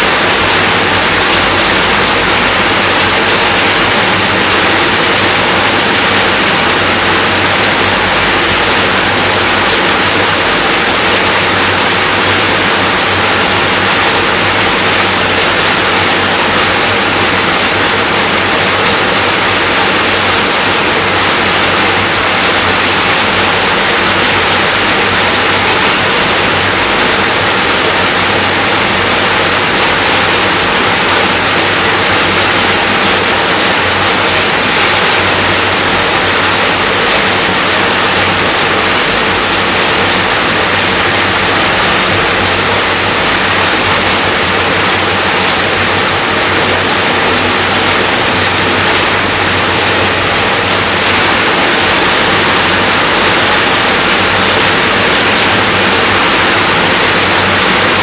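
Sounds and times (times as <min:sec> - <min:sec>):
loud rain: 0:00.0 - 0:58.0.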